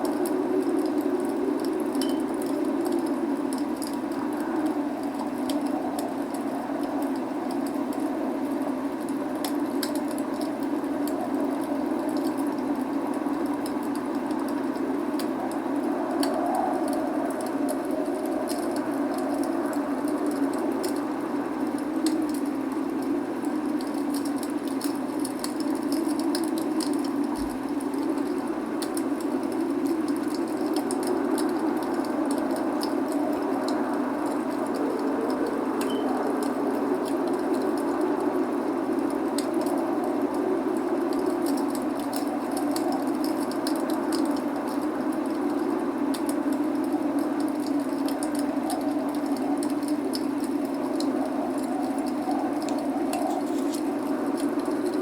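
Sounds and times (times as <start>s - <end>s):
log fire crackling and popping: 0.0s - 55.0s
rain hissing: 0.0s - 55.0s.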